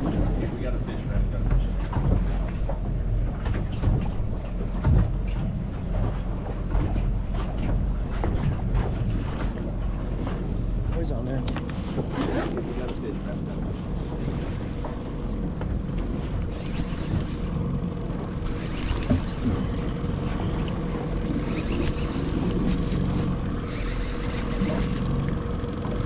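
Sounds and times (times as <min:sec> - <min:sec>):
boat motor humming: 0:00.0 - 0:26.0
water noise: 0:00.0 - 0:26.0
wind: 0:00.0 - 0:26.0.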